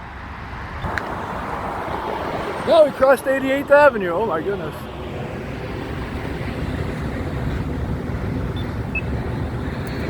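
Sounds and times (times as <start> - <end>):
cars passing: 0.0 - 10.0.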